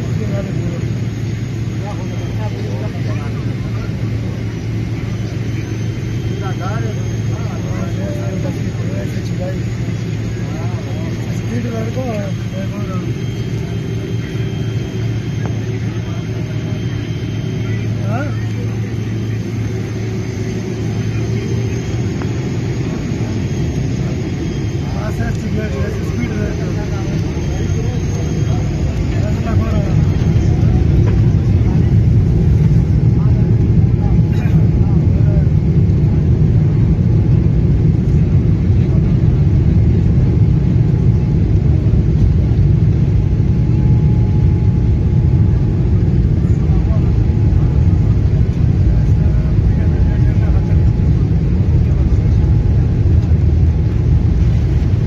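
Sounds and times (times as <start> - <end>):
faint high engine whine: 0.0 - 55.0
jet engines humming in cabin: 0.0 - 55.0.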